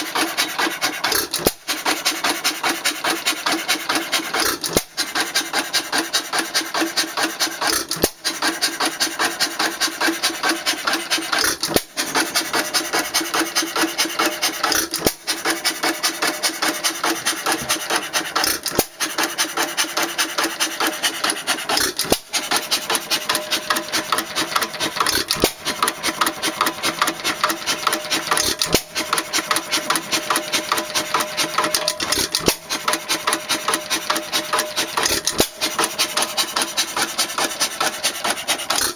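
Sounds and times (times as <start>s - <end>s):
old engine clattering: 0.0s - 38.9s.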